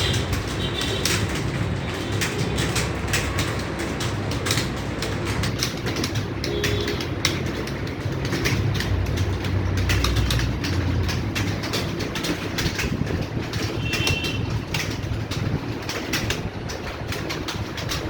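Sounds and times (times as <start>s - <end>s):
keyboards clattering: 0.0s - 18.0s.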